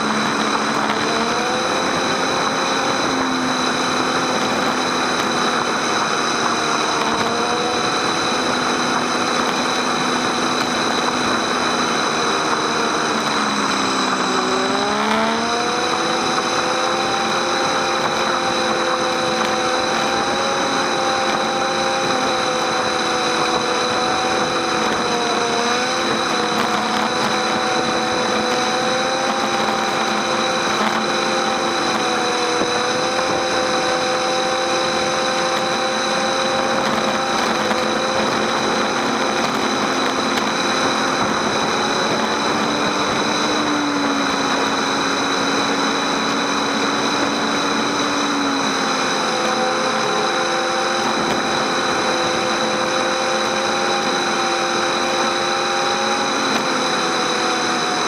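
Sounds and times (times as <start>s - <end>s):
motorcycle engine running: 0.0s - 58.0s
tires on wet road: 0.0s - 58.0s.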